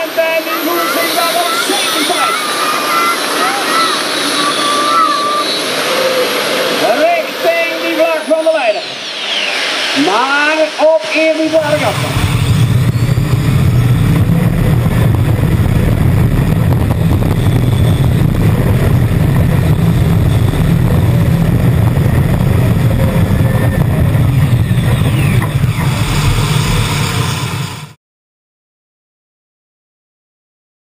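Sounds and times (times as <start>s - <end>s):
tractor turbine engine roaring: 0.0s - 28.0s.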